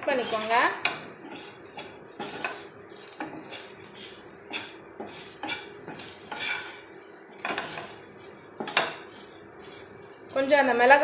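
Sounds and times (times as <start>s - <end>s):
utensil scraping a frying pan: 0.0s - 10.5s
oil sizzling: 0.0s - 11.0s.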